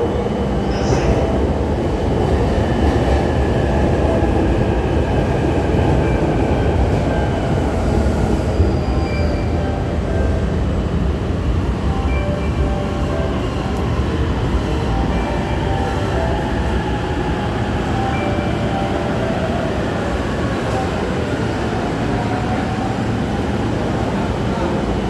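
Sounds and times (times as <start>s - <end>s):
electric train rumbling past: 0.0s - 25.0s.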